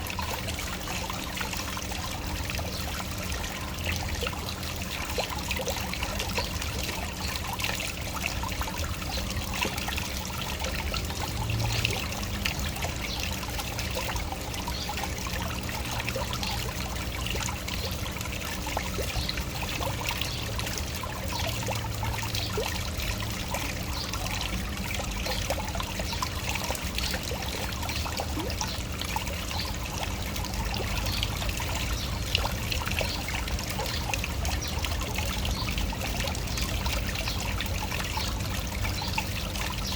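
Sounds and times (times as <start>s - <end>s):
low rumble of falling water: 0.0s - 39.9s
small waterfall splashing: 0.0s - 39.9s.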